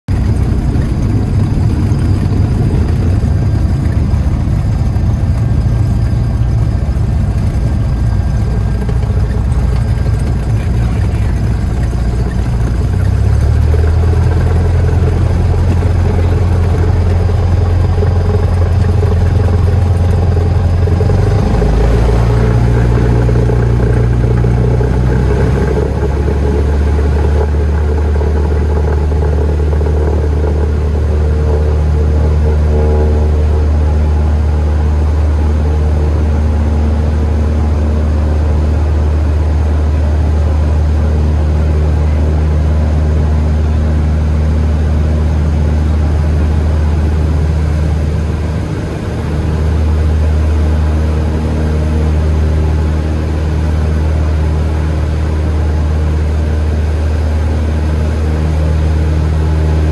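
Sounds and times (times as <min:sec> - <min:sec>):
aircraft piston engine and propeller: 0:00.0 - 0:59.9.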